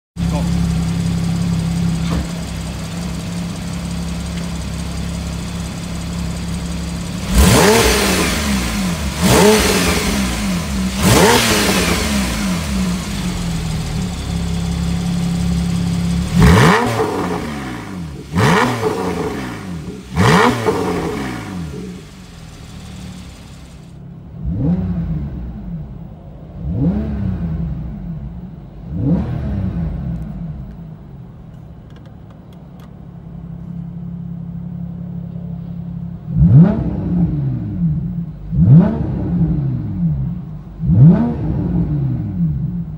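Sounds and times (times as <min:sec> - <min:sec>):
sports car engine revving: 0:00.2 - 0:30.7, 0:35.6 - 0:42.9.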